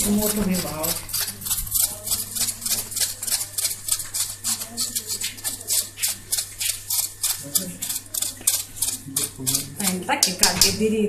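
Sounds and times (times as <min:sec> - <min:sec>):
metal sieve rasping shake: 0:00.0 - 0:10.8.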